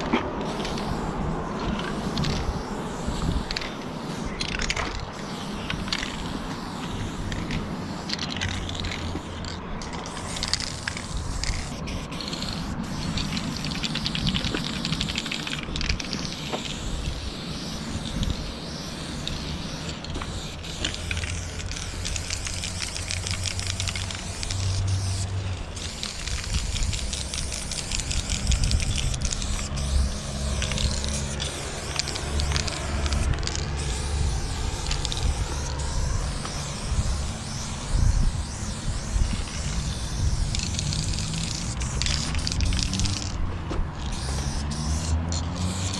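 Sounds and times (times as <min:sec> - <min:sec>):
spray paint can hissing: 0:00.0 - 0:43.4, 0:44.0 - 0:45.9.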